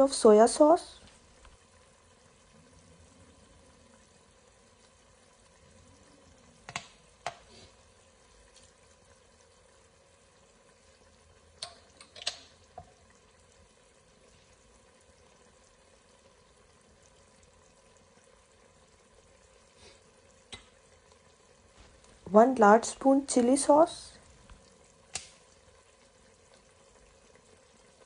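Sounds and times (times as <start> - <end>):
sauce simmering in a pot: 0.0 - 28.0.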